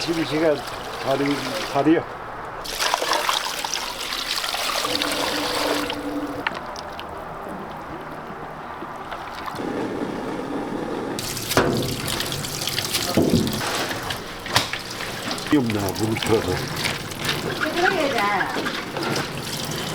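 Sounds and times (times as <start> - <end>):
water trickling and splashing: 0.0 - 9.6, 11.2 - 19.9.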